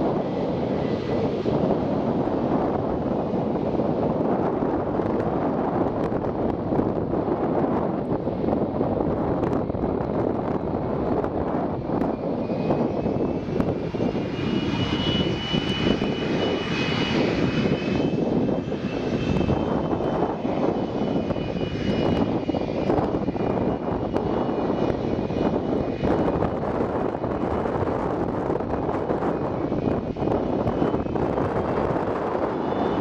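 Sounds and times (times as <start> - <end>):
high jet engine whine: 0.0 - 33.0
jet engines roaring: 0.0 - 33.0.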